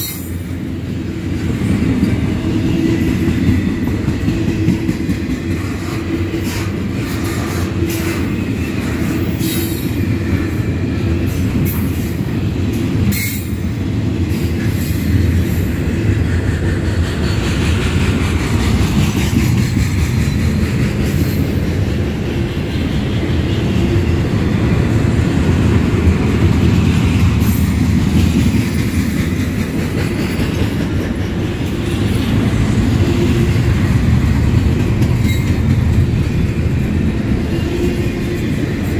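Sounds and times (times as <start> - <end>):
freight cars rumbling on rails: 0.0 - 38.9.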